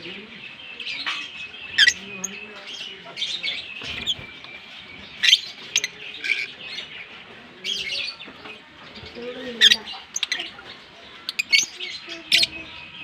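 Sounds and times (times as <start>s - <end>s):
lovebirds chirping and twittering: 0.0s - 13.0s.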